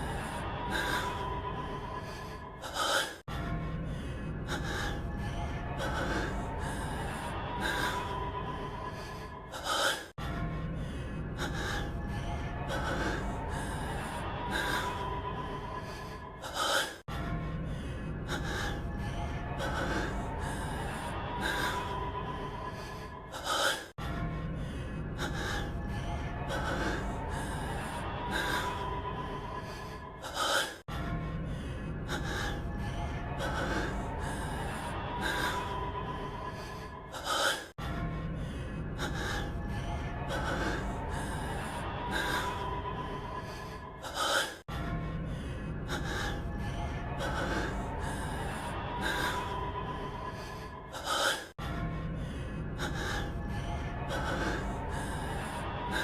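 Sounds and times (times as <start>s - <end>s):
man heavy breathing: 0.0s - 56.0s
quiet background music: 0.0s - 56.0s.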